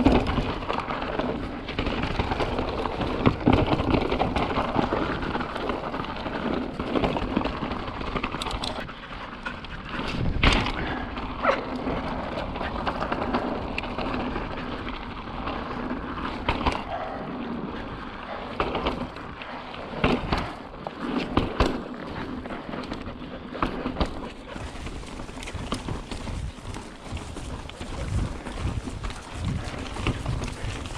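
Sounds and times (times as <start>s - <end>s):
bike knocking and rattling: 0.0s - 30.9s
tyre and wind noise: 0.0s - 30.9s.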